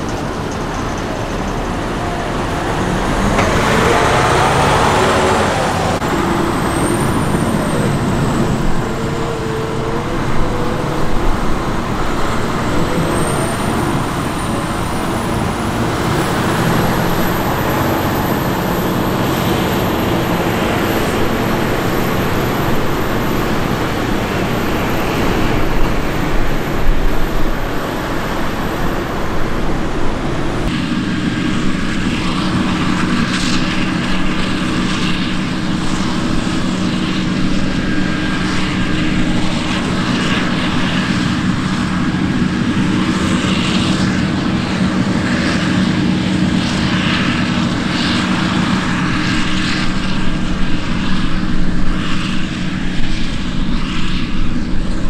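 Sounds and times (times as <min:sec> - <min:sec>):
tractor engine running: 0:00.0 - 0:50.6
forage harvester engine drone: 0:00.0 - 0:55.0.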